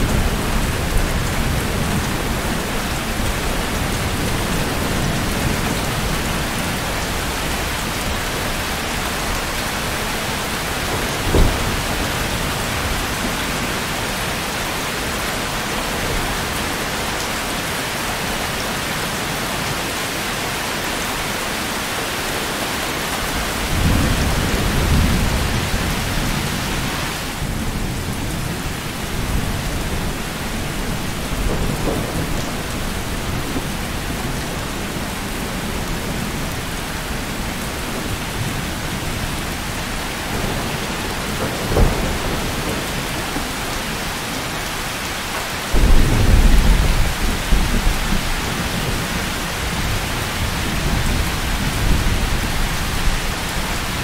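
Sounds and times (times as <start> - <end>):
thunder rumbling: 0.0 - 16.8, 23.2 - 54.0
heavy rain on metal shed: 0.0 - 54.0.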